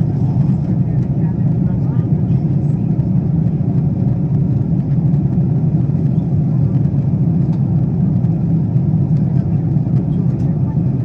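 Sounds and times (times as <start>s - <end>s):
airflow over fuselage: 0.0s - 11.0s
airplane cabin engine rumble: 0.0s - 11.0s.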